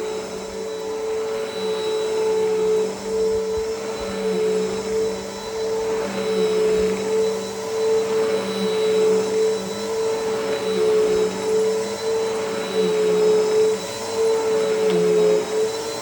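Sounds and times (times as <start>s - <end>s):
vacuum cleaner running on carpet: 0.0s - 16.0s.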